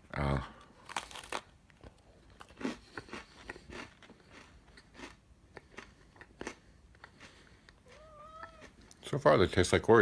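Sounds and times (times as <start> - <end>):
person crunching a cookie: 0.6 - 9.0.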